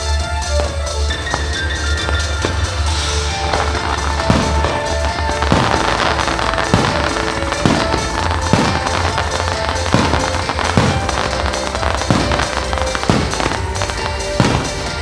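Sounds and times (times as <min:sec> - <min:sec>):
fireworks bangs: 0:00.0 - 0:15.0
show music: 0:00.0 - 0:15.0.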